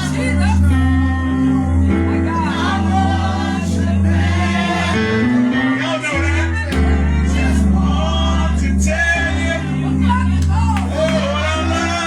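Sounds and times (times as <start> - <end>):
person singing gospel: 0.0 - 12.0
sustained low instrumental chords: 0.0 - 12.0.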